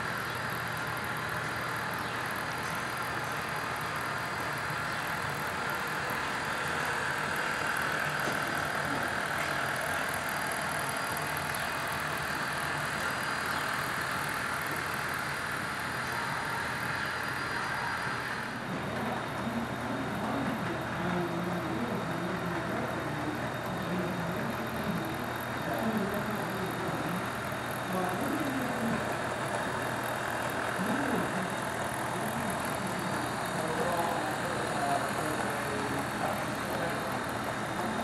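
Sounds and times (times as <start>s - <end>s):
model train motors whirring: 0.0s - 38.0s.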